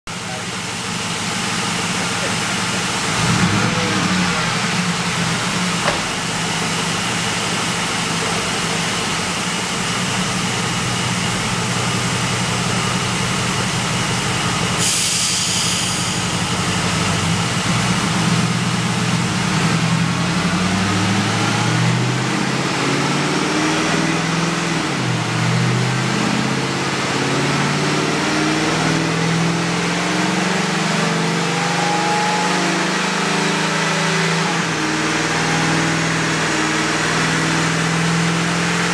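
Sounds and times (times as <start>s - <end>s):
supercharged engine running on dyno: 0.1s - 38.9s.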